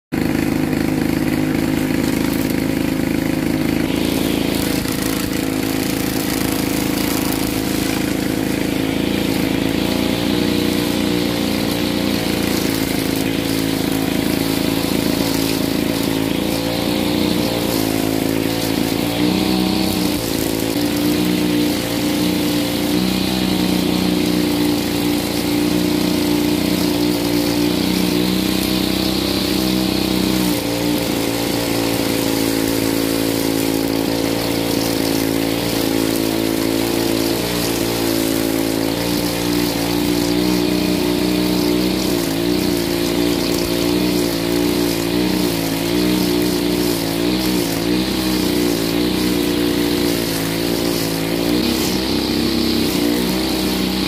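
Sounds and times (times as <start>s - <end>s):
brush cutter engine cutting grass: 0.1s - 54.0s.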